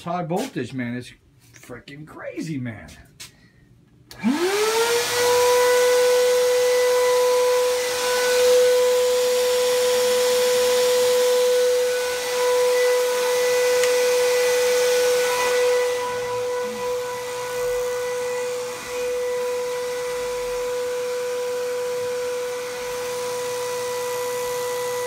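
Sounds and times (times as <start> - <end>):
loud electrical hum: 0.0 - 25.0.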